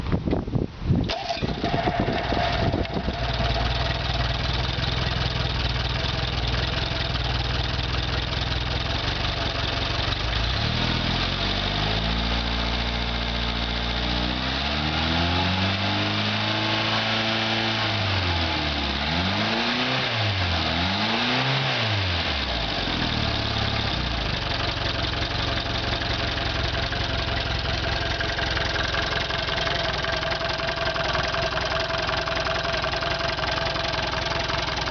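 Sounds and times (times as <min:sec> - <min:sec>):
engine idling and revving: 0:01.1 - 0:34.9.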